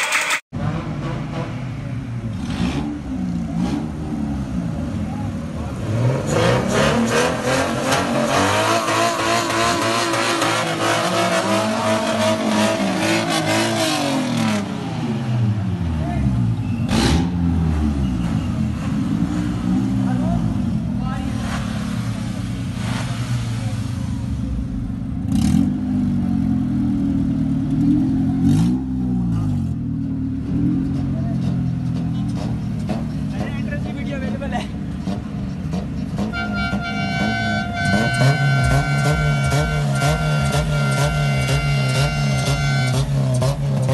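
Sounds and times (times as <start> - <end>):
car engine revving: 0.1 - 43.9.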